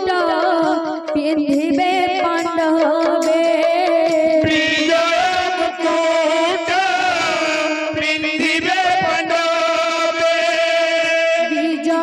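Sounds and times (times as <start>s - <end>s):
hand drums: 0.0s - 10.8s.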